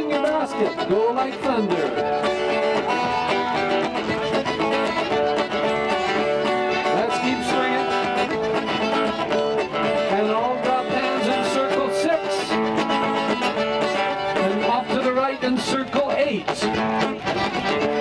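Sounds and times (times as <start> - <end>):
string band playing dance tune: 0.0 - 18.0.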